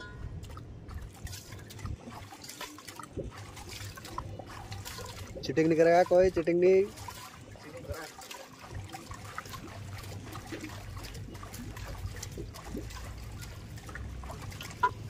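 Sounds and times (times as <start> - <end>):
low steady rumble: 0.0 - 15.0
water trickling and dripping: 0.0 - 15.0.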